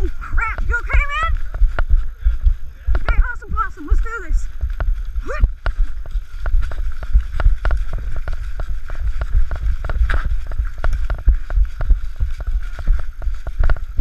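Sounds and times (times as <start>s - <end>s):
irregular knocks and thumps: 0.0s - 14.0s
wind rumble on microphone: 0.0s - 14.0s.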